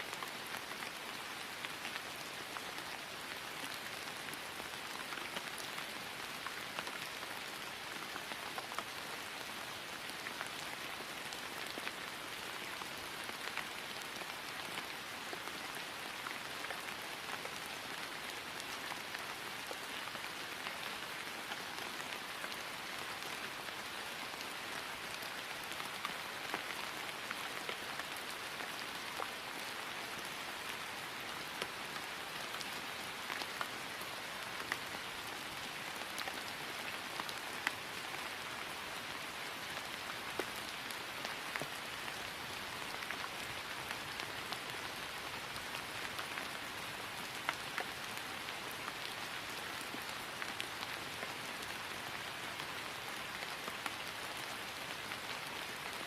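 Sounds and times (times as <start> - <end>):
rain falling on grass: 0.0 - 56.0.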